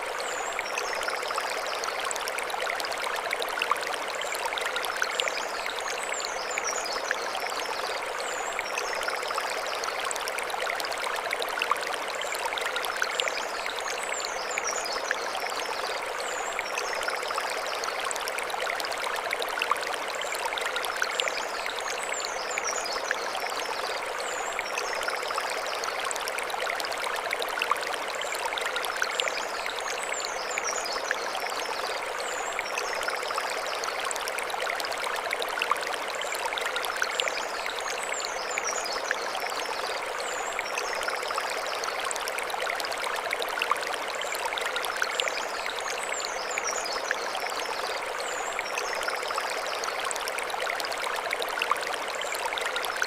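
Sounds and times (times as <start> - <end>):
stream running over stones: 0.0 - 53.0.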